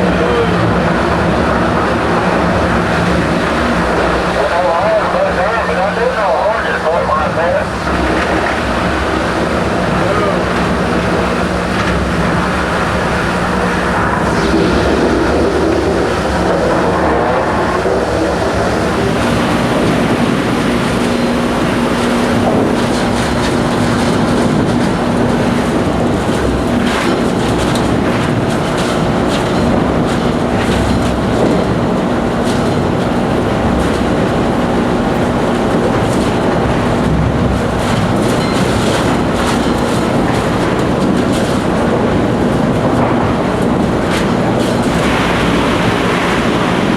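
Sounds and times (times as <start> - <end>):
wood chipper engine drone: 0.0 - 46.9.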